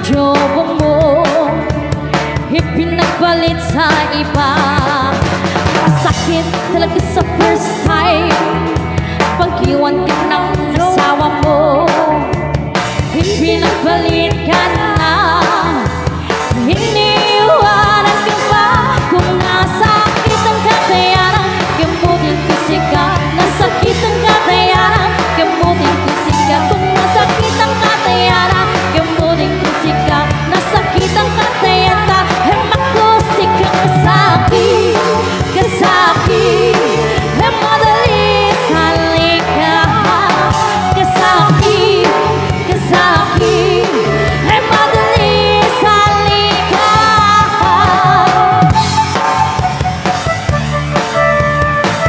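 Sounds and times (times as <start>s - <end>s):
live band playing pop song: 0.0s - 52.0s
person singing: 2.4s - 12.3s, 13.1s - 48.9s.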